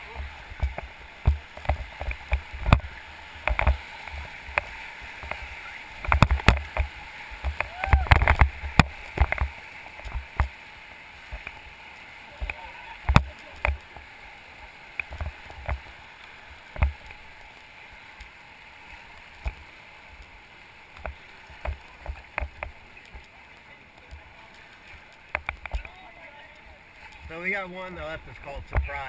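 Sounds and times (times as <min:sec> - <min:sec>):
river water running: 0:00.0 - 0:29.0.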